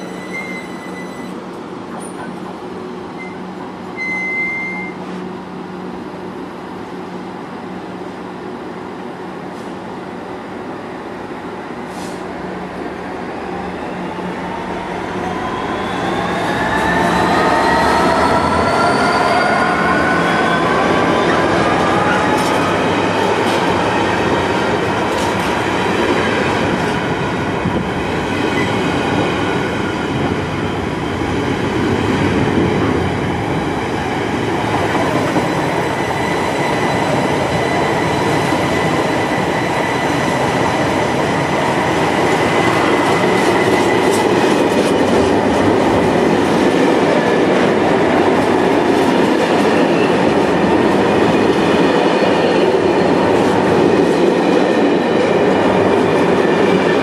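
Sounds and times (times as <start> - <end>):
train wheels rumbling on rail: 5.0 - 57.0.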